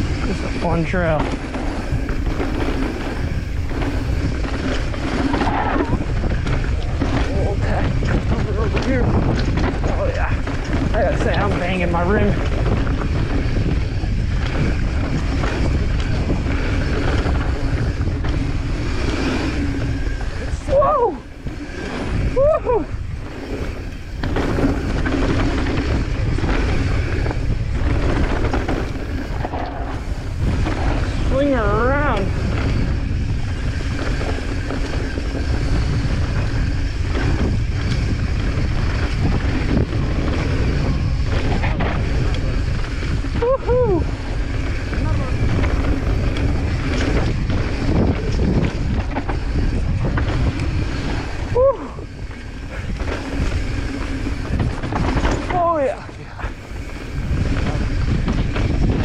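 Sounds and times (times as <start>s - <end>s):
bike rattling and knocking: 0.0s - 59.0s
tyres rumbling on dirt and rock: 0.0s - 59.0s
wind buffeting microphone: 0.0s - 59.0s.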